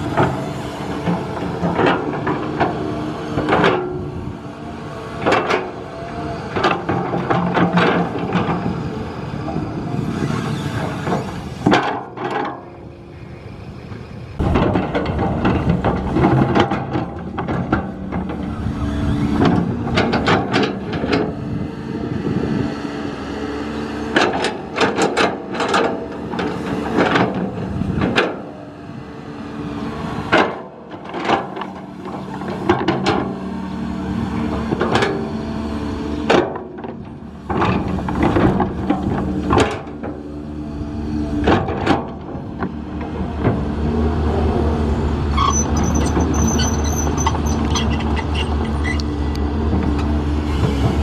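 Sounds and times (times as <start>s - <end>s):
construction machinery engine hum: 0.0s - 51.0s.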